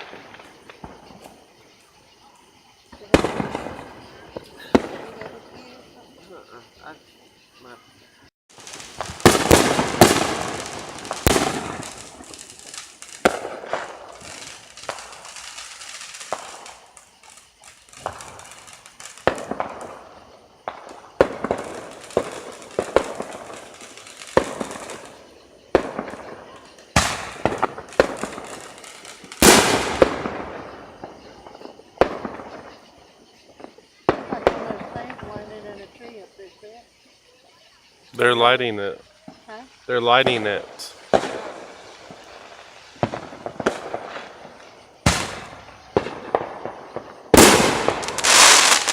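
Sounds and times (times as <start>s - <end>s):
fireworks bangs and crackle: 0.0s - 6.4s, 8.5s - 36.3s, 37.9s - 48.9s.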